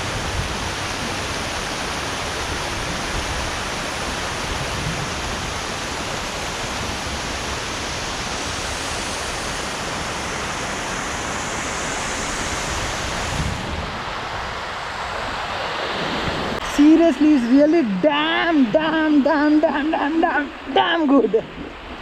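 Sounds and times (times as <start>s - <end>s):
small waterfall splashing: 0.0s - 16.7s, 18.0s - 22.0s.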